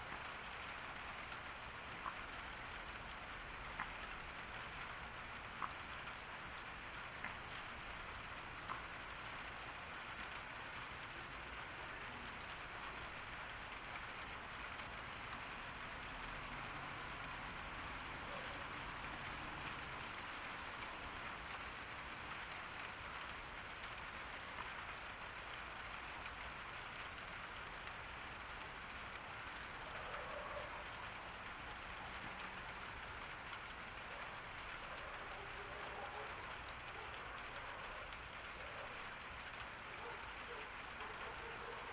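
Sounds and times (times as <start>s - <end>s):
rain falling on garden: 0.0s - 41.9s.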